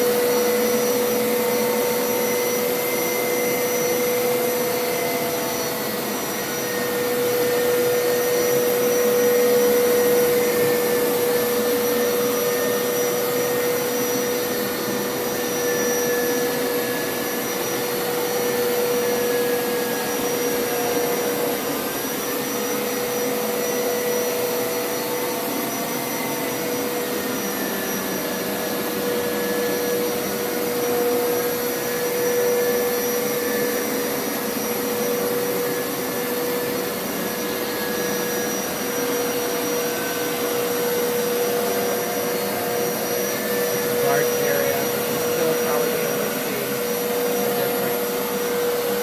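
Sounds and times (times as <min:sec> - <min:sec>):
carpet washer motor whining: 0:00.0 - 0:49.0.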